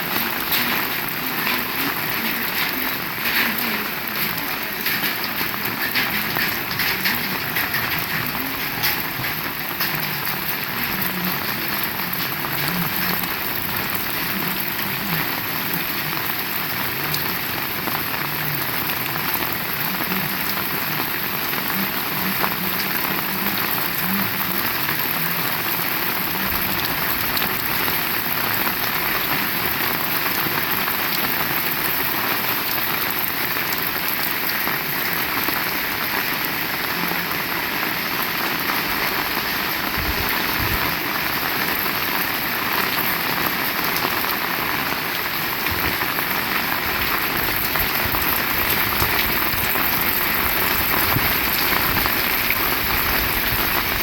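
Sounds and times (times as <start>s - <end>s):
crackling raindrop impacts: 0.0s - 54.0s
heavy rain hissing: 0.0s - 54.0s.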